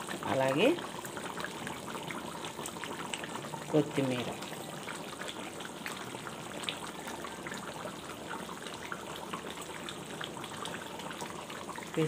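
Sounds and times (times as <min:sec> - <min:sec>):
curry boiling with bubbling pops: 0:00.0 - 0:12.0.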